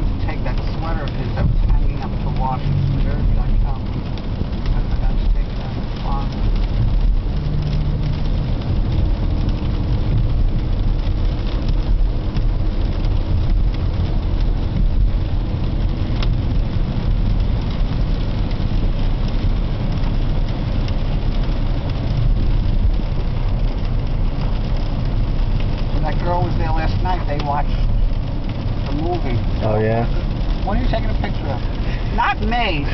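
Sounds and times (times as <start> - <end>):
engine and tyre rumble: 0.0 - 32.9
rain and wet tyres hissing: 0.0 - 32.9.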